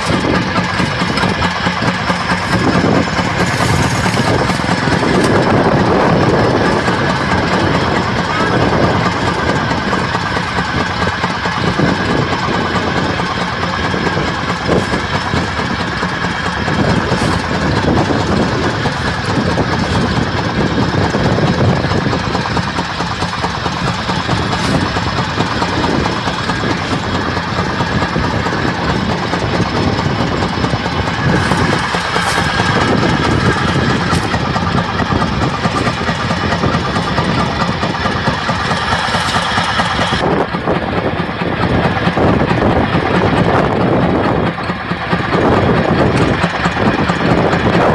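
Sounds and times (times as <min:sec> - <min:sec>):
combine harvester running: 0:00.0 - 0:47.9.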